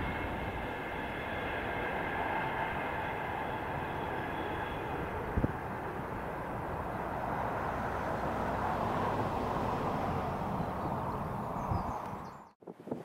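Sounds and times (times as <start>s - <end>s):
distant freight train rumbling: 0.0s - 12.2s.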